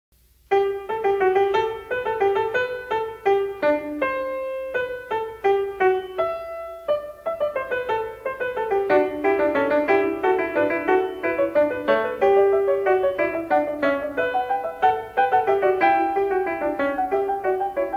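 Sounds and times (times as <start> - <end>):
piano music: 0.5 - 17.9.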